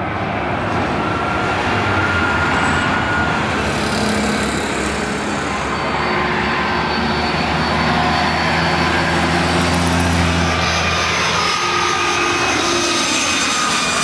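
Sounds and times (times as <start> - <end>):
jet airliner engines rumbling: 0.0 - 14.0.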